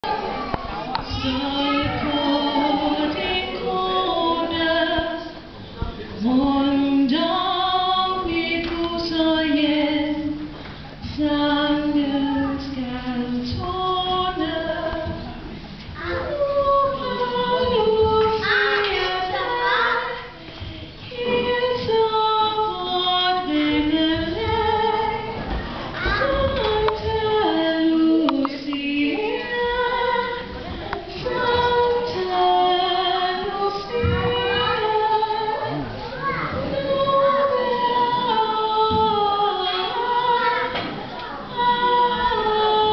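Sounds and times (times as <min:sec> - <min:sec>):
group singing together: 0:00.9 - 0:05.5, 0:06.1 - 0:42.9.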